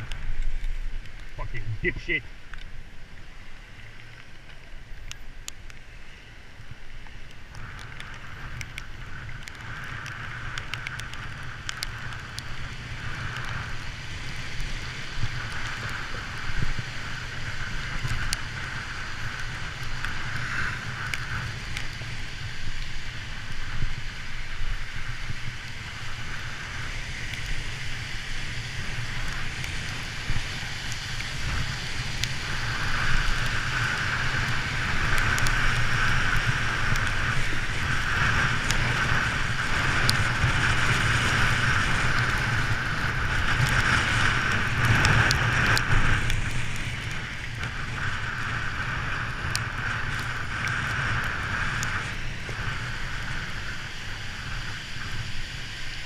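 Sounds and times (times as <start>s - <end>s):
tyres hissing on wet street: 0.0s - 56.0s.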